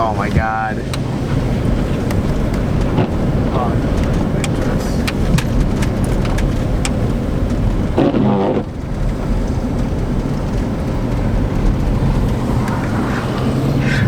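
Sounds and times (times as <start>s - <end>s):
engine droning under throttle: 0.0s - 14.0s.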